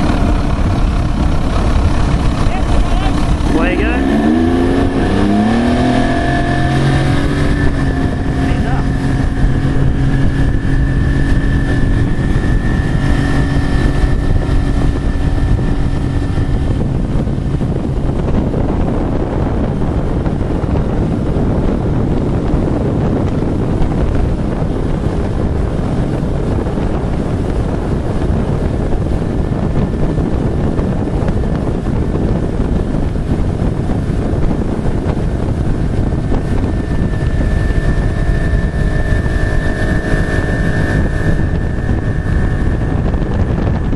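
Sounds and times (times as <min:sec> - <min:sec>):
boat motor running: 0:00.0 - 0:43.9
rush of wind and water: 0:00.0 - 0:43.9.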